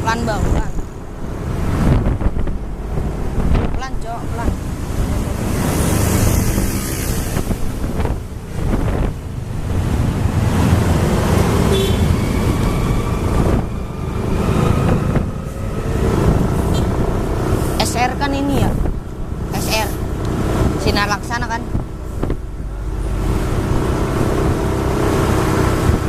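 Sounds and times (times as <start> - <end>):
road and engine rumble: 0.0 - 26.0
wind buffeting microphone: 0.0 - 26.0.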